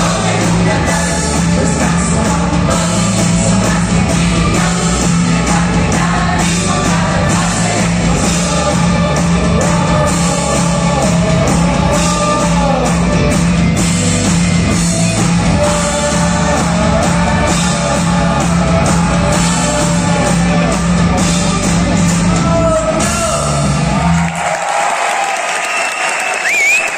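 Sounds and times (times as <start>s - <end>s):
person singing: 0.0s - 23.7s
live rock band playing: 0.0s - 24.3s.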